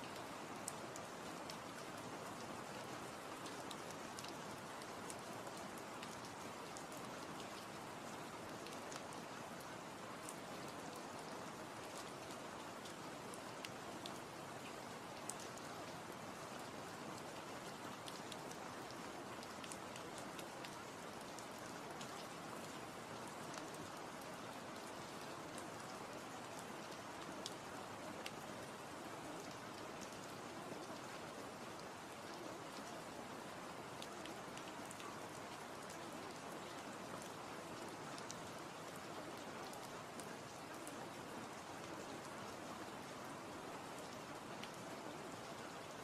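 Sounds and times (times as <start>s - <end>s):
steady rain patter: 0.0s - 46.0s.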